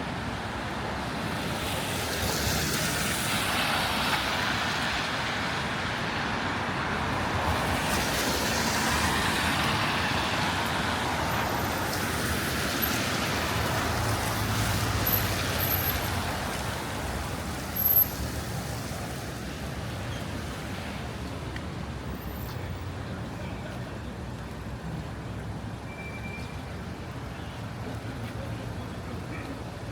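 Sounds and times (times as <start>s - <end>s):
cars passing on wet road: 0.0s - 29.9s.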